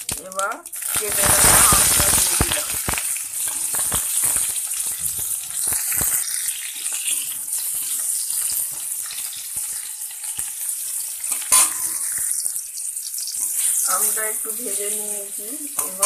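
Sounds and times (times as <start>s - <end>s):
food sizzling in hot oil: 0.0s - 16.0s
spatula scraping a pan: 1.1s - 16.0s.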